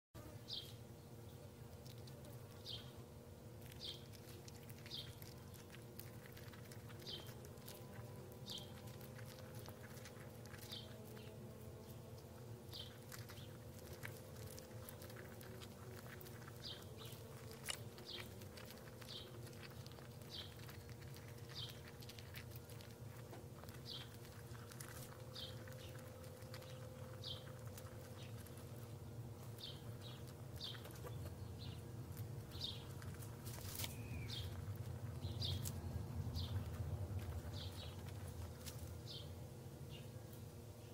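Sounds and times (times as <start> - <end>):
steady low hum: 0.2 - 40.9.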